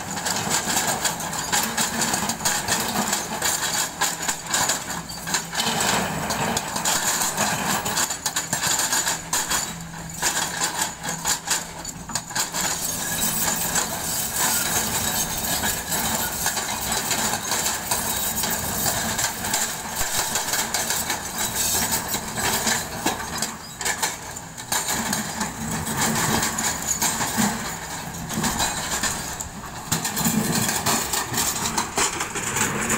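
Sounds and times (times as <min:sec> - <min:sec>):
diesel engines under load: 0:00.0 - 0:32.9
hydraulic breaker pounding rock: 0:00.0 - 0:32.9.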